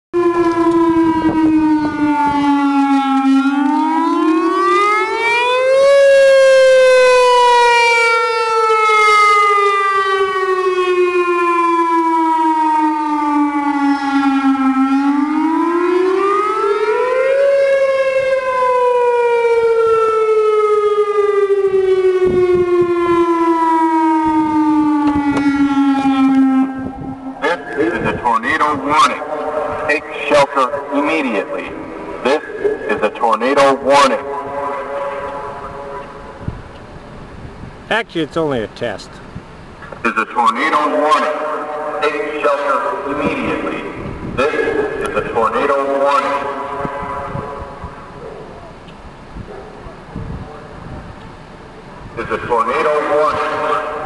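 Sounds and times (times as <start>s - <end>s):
tornado siren wailing: 0.2s - 37.8s, 39.2s - 54.0s.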